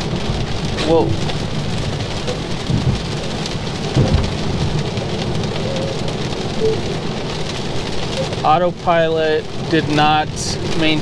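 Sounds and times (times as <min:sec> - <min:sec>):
heavy rain drumming on car roof: 0:00.0 - 0:11.0
tyres on wet road: 0:00.0 - 0:11.0.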